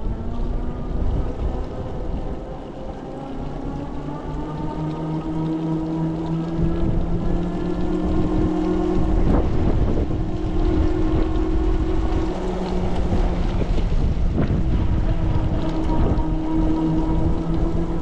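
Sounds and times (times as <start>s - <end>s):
pouring rain: 0.0s - 18.0s
wind noise on microphone: 0.0s - 18.0s.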